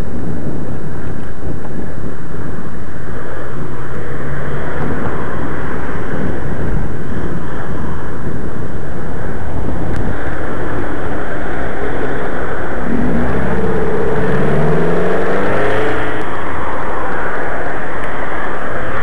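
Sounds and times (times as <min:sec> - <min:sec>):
road traffic: 0:00.0 - 0:19.0
wind buffeting microphone: 0:00.0 - 0:19.0.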